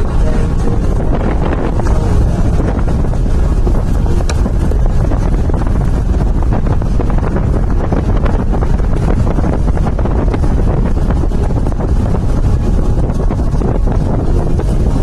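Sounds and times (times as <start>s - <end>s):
vehicle running and road noise: 0.0s - 15.0s
wind buffeting microphone: 0.0s - 15.0s.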